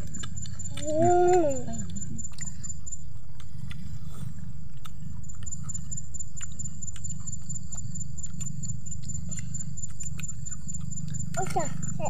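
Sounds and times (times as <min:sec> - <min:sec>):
boy chewing: 0:00.0 - 0:12.0
high pulsing whine: 0:00.0 - 0:12.0.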